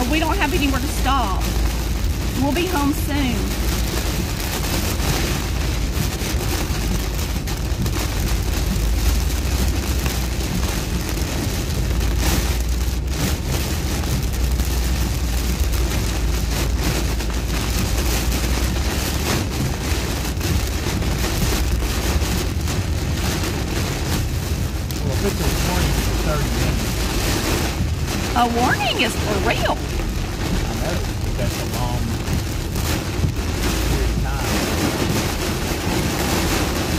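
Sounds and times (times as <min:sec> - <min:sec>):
heavy rain on car roof: 0:00.0 - 0:36.9
tyres rumbling on wet road: 0:00.0 - 0:36.9.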